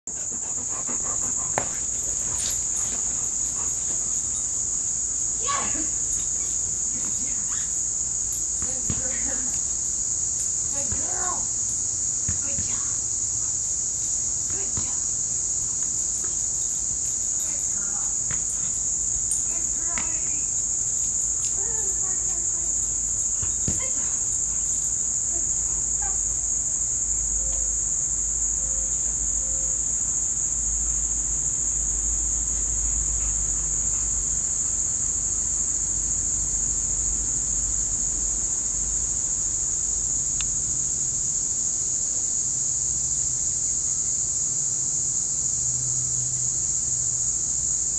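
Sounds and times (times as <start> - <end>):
insects singing: 0.1 - 47.9.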